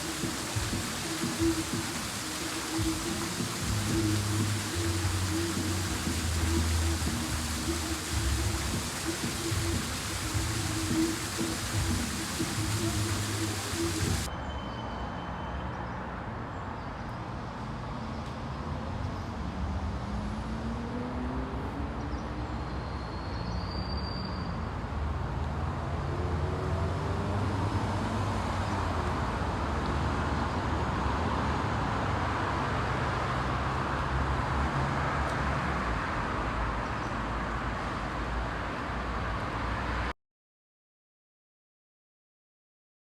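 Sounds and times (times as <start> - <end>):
road traffic rumble and hiss: 0.0 - 40.1.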